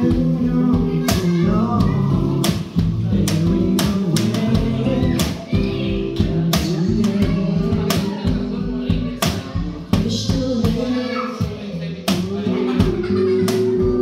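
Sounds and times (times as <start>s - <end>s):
cajon slaps: 0.0s - 8.4s, 9.2s - 11.0s, 12.1s - 14.0s
acoustic guitar strumming: 0.0s - 14.0s.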